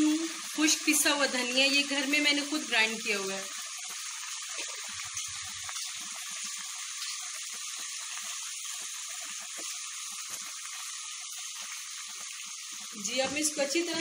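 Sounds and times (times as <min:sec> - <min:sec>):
chicken sizzling in a pot: 0:00.0 - 0:14.0.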